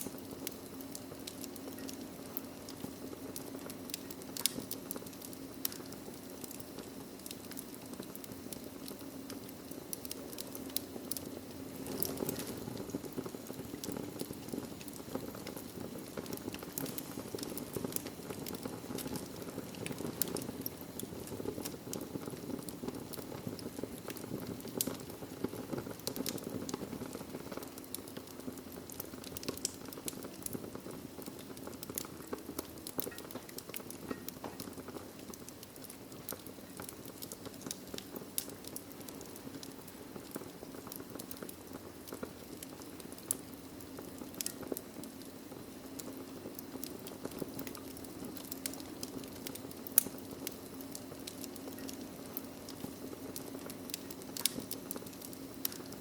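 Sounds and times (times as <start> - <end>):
fire crackling and popping: 0.0 - 56.0
fire rushing: 0.0 - 56.0.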